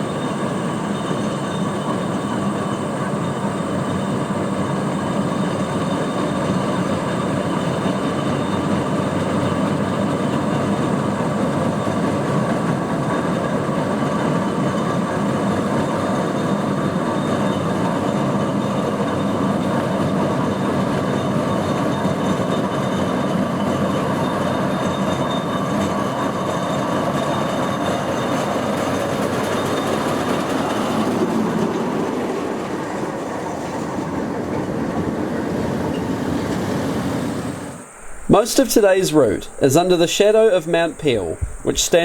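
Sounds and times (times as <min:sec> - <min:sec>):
steam traction engine running: 0:00.0 - 0:42.0.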